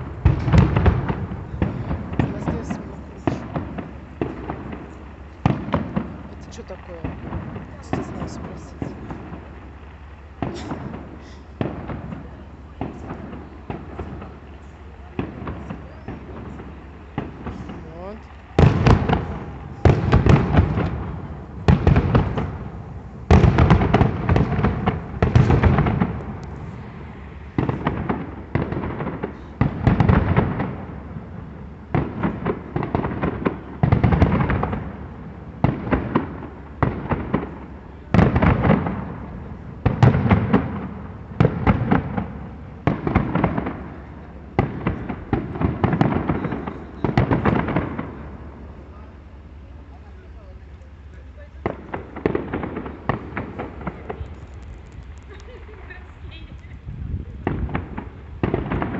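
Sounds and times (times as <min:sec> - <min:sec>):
fireworks bursting with sharp cracks: 0:00.0 - 0:58.9.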